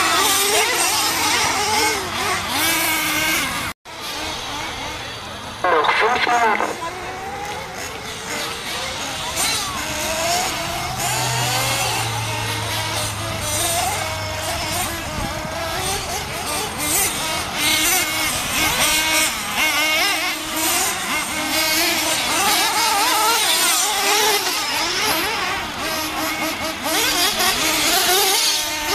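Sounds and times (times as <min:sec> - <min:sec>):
small engines buzzing and revving: 0:00.0 - 0:28.9.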